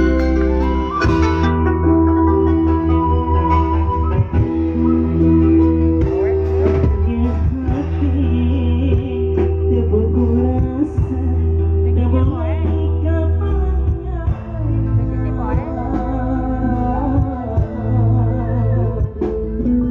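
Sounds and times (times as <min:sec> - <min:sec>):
electronic keyboard chords: 0:00.0 - 0:19.9
guitar: 0:00.0 - 0:19.9
heavy bass line: 0:00.0 - 0:19.9
person singing: 0:01.8 - 0:19.9.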